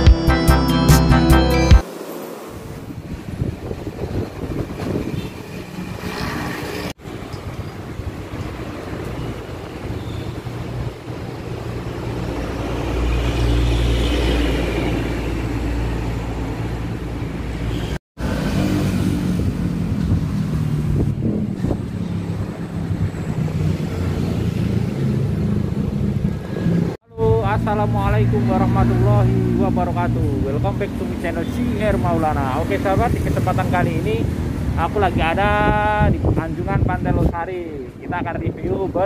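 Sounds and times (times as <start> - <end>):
vehicle engine hum: 1.8 - 36.1.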